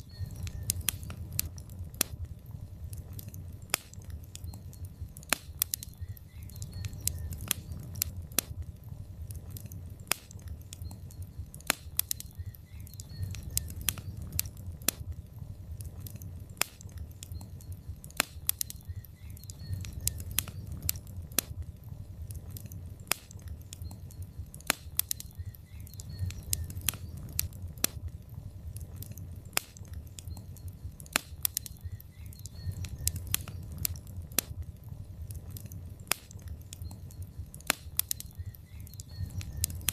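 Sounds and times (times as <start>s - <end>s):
low rumble of flames: 0.0s - 39.9s
sharp pops and snaps: 0.0s - 39.9s
wood fire crackling: 0.0s - 39.9s.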